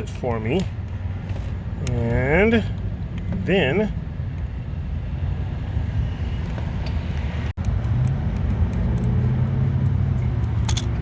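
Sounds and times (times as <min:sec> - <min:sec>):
engine-like hum: 0:00.0 - 0:11.0
traffic rumble: 0:00.0 - 0:11.0.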